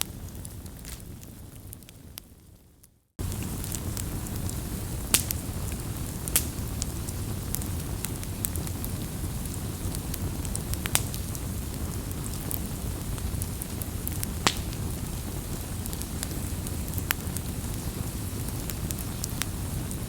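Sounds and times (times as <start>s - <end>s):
burning wood crackling and popping: 0.0s - 20.0s
campfire rumble and hiss: 0.0s - 20.0s.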